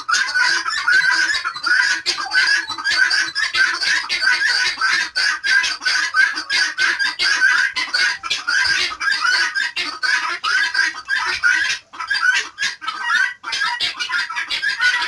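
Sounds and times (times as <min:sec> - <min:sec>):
guineafowl and chickens calling: 0:00.0 - 0:15.0.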